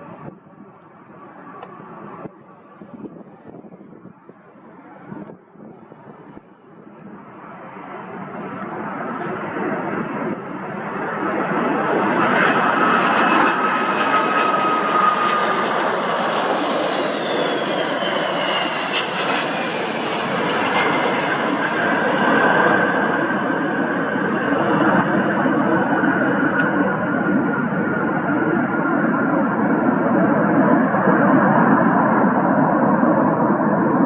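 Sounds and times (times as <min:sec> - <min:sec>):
jet engine whine: 0:00.0 - 0:34.0
jet engines rushing: 0:00.0 - 0:34.0.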